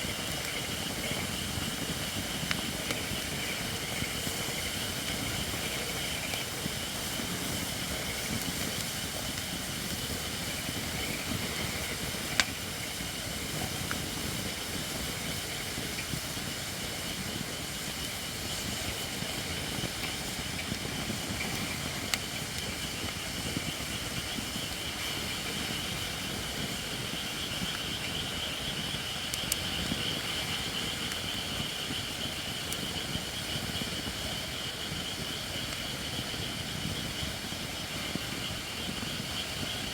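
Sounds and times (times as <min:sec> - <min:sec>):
burning wood popping: 0:00.0 - 0:39.2
firewood hissing steam: 0:00.0 - 0:39.9.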